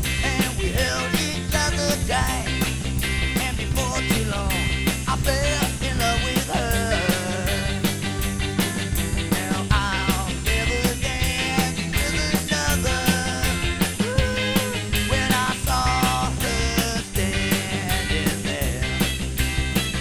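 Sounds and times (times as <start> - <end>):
bending lead line: 0.0 - 20.0
rock band music: 0.0 - 20.0.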